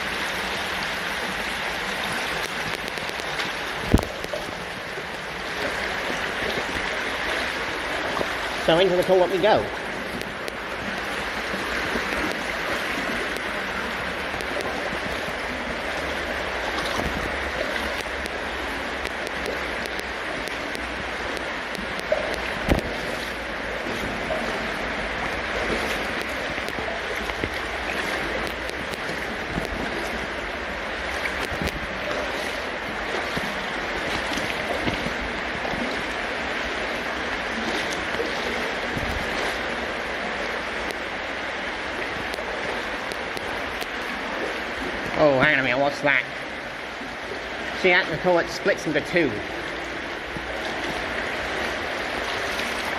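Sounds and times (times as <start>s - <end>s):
water rushing through culvert: 0.0s - 52.9s.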